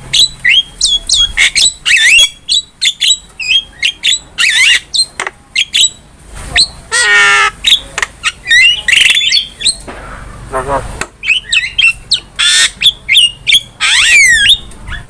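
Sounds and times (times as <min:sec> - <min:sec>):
myna singing whistles and chirps: 0:00.1 - 0:09.9, 0:11.2 - 0:15.0.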